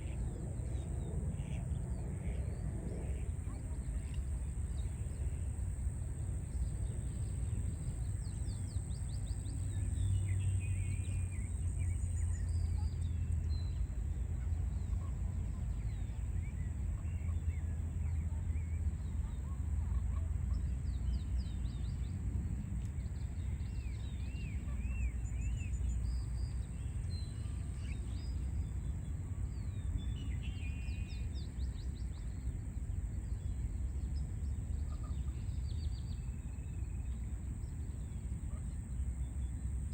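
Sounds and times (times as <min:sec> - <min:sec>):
low rumble of city traffic: 0:00.0 - 0:39.9.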